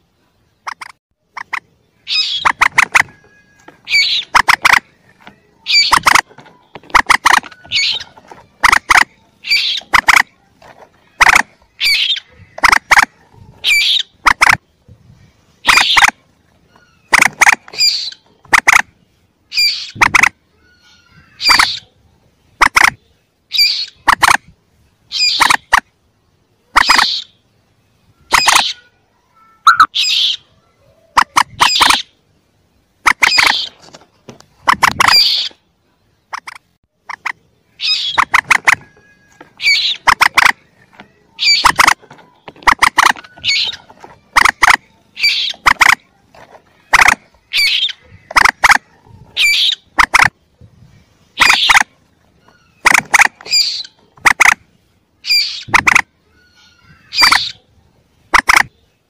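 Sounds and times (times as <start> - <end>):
moorhen chick calling: 0.0 - 25.9, 26.6 - 59.0.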